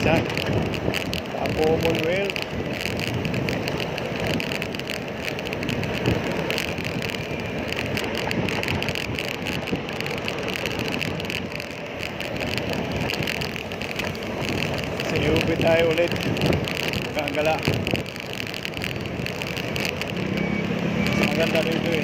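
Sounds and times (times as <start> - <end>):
bicycle road noise: 0.0 - 22.0
wind rushing over microphone: 0.0 - 22.0.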